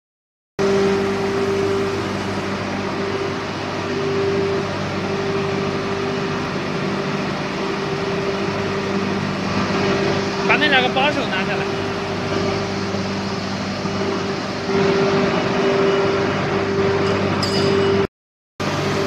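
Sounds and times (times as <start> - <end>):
shot blasting machine running: 0.6 - 19.0.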